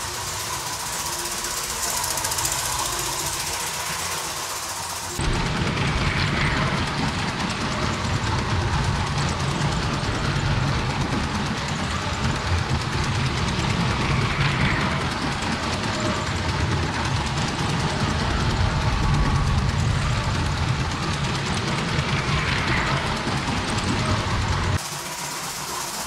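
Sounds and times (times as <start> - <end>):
toy train wheels and motor rattling: 0.0 - 26.0.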